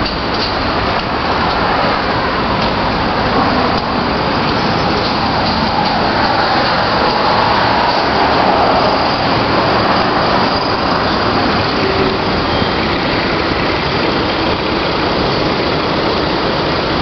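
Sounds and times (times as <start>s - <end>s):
speedboat engines running: 0.0s - 17.0s.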